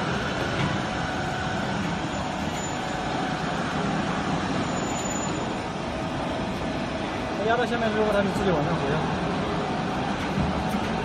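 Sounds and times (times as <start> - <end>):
hydraulic pump and motor running: 0.0 - 11.0.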